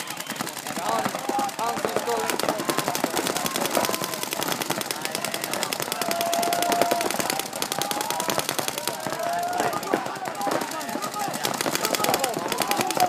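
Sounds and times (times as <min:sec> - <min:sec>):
paintball guns firing: 0:00.0 - 0:13.0.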